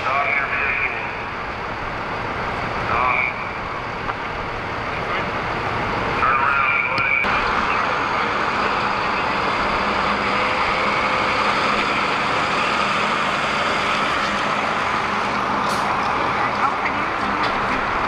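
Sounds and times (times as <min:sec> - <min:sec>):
large vehicle engine running: 0:00.0 - 0:18.0.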